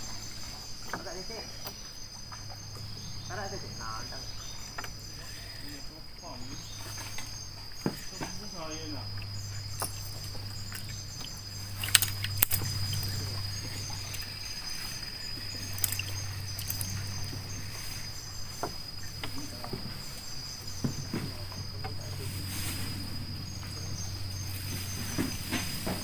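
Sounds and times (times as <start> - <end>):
low steady hum: 0.0 - 25.6
insects chirring: 0.0 - 26.0.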